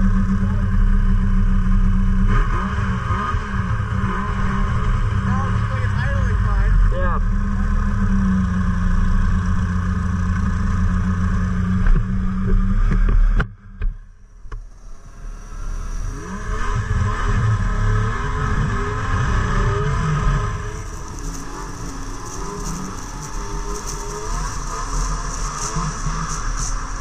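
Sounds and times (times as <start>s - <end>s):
engine revving: 0.0s - 13.9s, 14.6s - 27.0s
snowmobile engines running: 0.0s - 27.0s.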